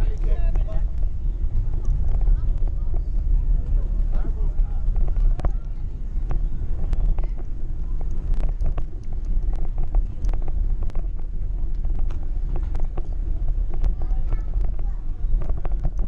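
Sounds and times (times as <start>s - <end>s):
small clicks and rattles: 0.0s - 16.0s
wind buffeting microphone: 0.0s - 16.0s.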